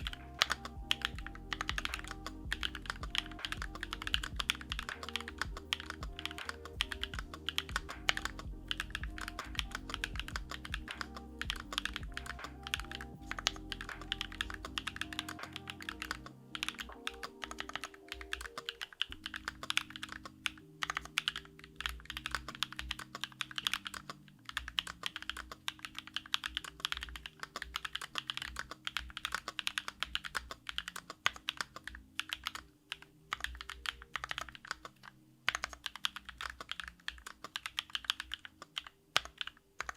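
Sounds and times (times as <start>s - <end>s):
fast typing on mechanical keyboard: 0.0s - 39.9s
soft background music: 0.0s - 39.9s.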